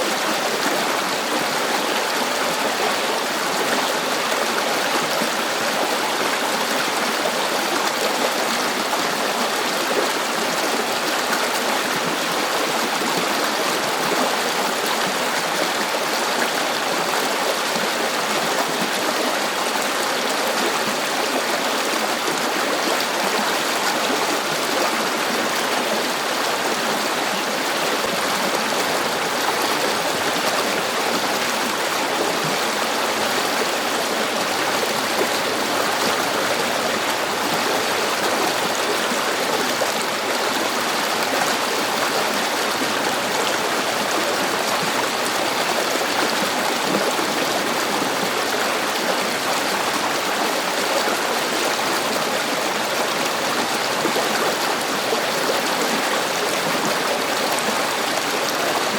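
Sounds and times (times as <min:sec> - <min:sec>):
river water flowing over stones: 0:00.0 - 0:58.9.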